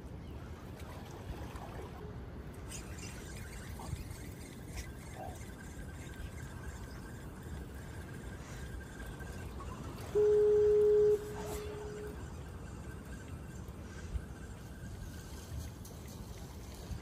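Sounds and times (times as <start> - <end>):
soft water sounds: 0.0 - 17.0.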